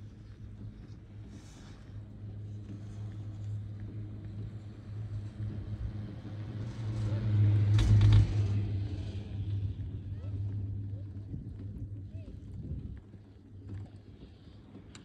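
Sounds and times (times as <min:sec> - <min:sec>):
chairlift low hum: 0:00.0 - 0:15.0.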